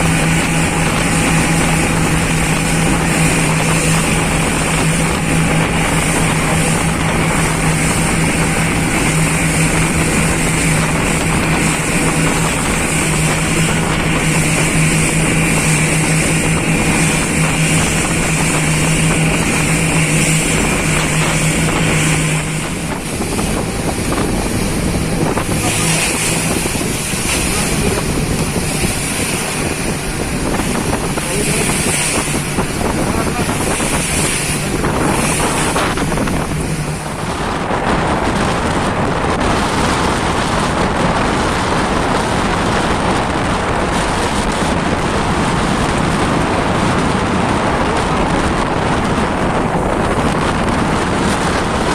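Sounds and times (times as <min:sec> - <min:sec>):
motorboat engine running: 0:00.0 - 0:51.9
rushing water noise: 0:00.0 - 0:51.9.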